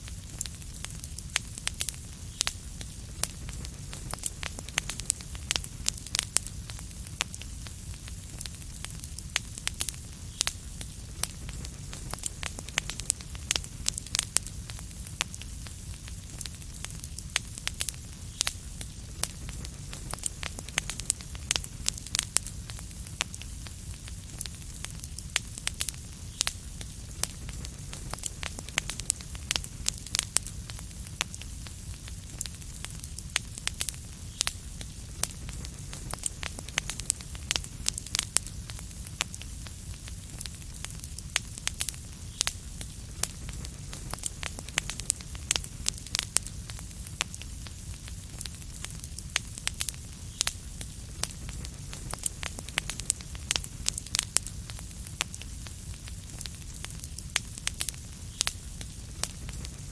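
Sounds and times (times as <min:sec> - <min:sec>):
fire crackling and popping: 0:00.0 - 0:59.9
low rumble of fire: 0:00.0 - 0:59.9.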